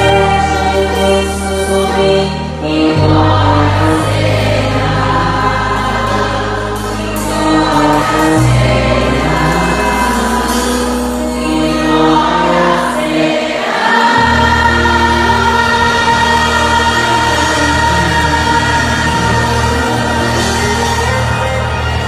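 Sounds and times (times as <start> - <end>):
choir singing a hymn: 0.0 - 22.0
sustained bass accompaniment: 0.0 - 22.0.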